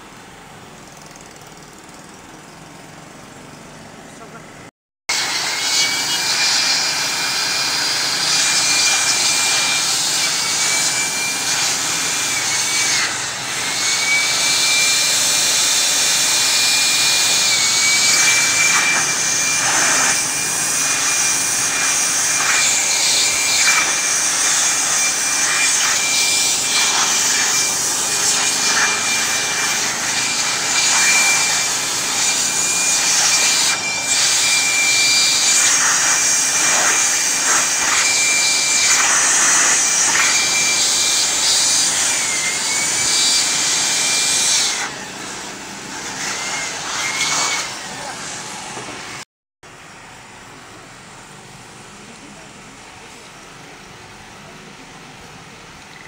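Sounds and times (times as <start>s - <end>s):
electric air blower whining: 0.0s - 55.1s.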